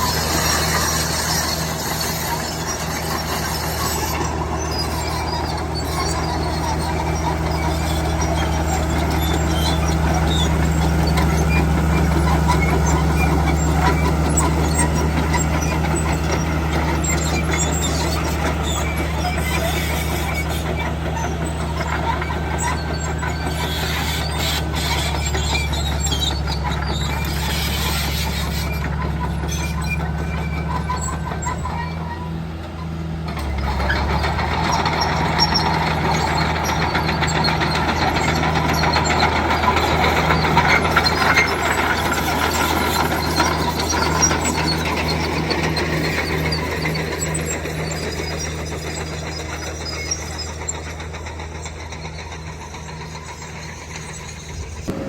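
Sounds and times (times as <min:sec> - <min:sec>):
diesel machinery engine running: 0:00.0 - 0:55.0
metallic squeaks and clicks: 0:00.0 - 0:55.0.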